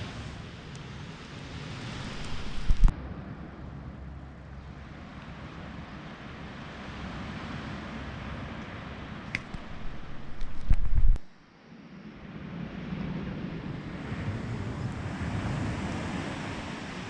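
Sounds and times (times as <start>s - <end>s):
outdoor noise: 0.0s - 17.0s
wind rumbling on microphone: 0.0s - 17.0s.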